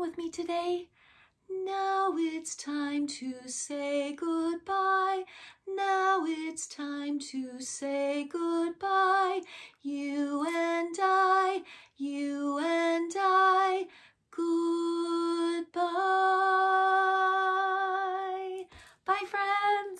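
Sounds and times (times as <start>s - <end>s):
woman singing unaccompanied: 1.5s - 19.9s.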